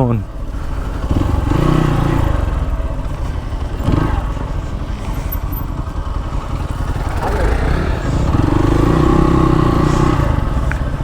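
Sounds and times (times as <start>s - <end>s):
dirt bike engine revving: 0.4s - 11.0s.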